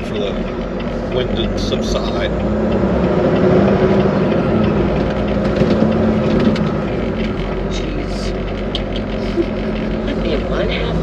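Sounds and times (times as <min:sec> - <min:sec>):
road noise: 0:00.0 - 0:11.0
truck engine hum: 0:00.0 - 0:11.0.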